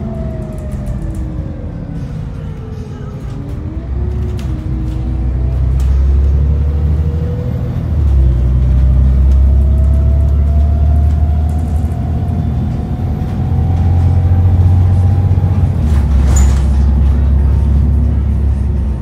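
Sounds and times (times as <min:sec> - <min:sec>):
bus engine rumble and whine: 0:00.0 - 0:19.0.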